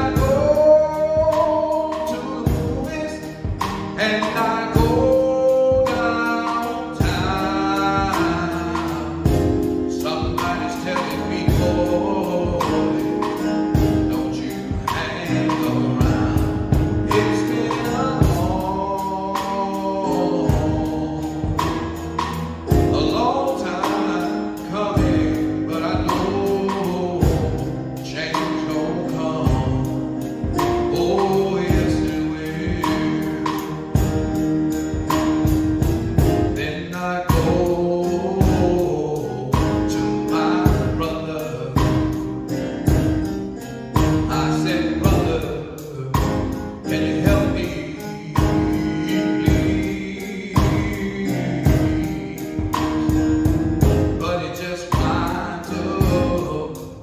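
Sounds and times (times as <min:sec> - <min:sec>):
man singing into microphone: 0:00.0 - 0:35.4, 0:36.2 - 0:57.0
live band playing: 0:00.0 - 0:57.0
steady drum beat: 0:00.0 - 0:57.0.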